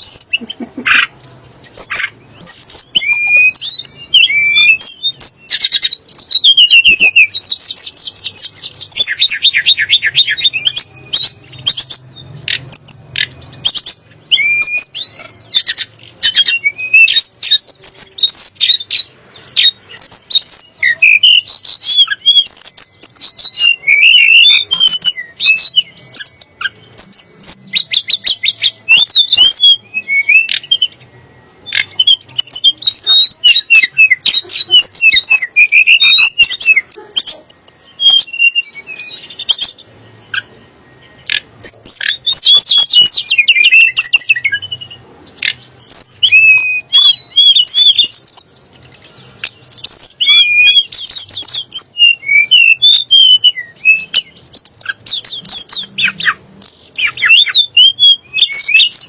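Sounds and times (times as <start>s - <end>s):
songbird singing loudly: 0.0s - 59.0s.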